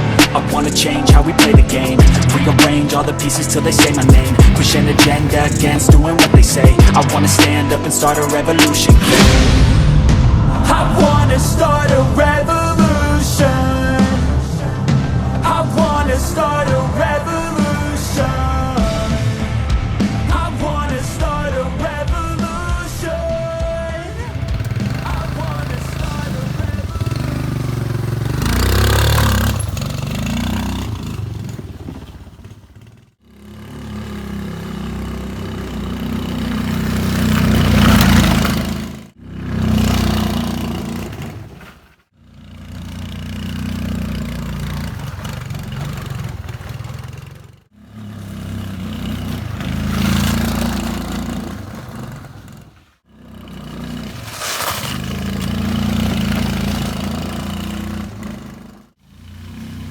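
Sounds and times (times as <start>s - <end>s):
scooter engine revving: 0.0s - 9.6s, 10.7s - 59.9s.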